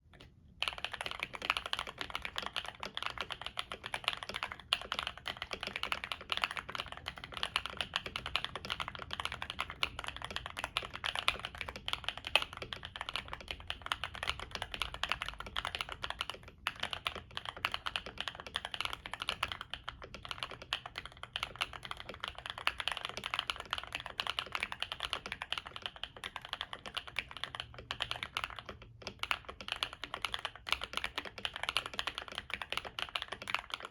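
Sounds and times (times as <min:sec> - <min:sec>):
fast typing on mechanical keyboard: 0:00.2 - 0:33.9.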